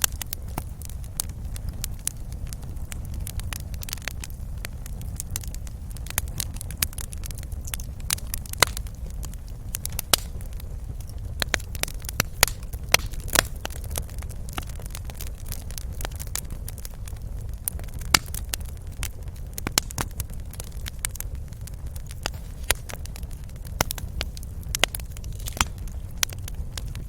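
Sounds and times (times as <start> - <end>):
low rumble of flame: 0.0 - 27.0
wood fire popping and crackling: 0.0 - 27.0.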